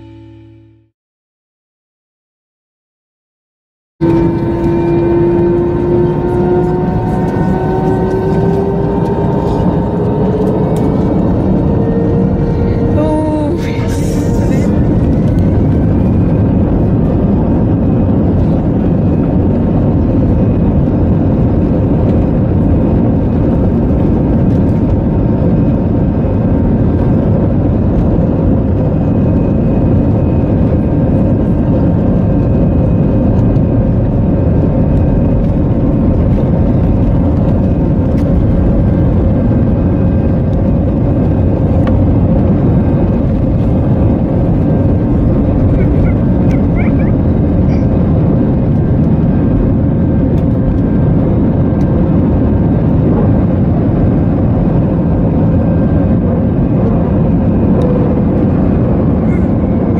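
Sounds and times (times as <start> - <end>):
jet engine drone with whine: 4.0 - 59.9.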